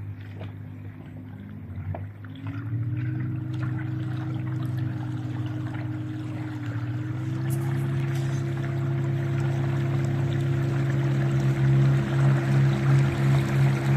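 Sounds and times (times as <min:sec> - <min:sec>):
electric boat motor humming: 0:00.0 - 0:13.9
water splashing around hull: 0:00.0 - 0:13.9.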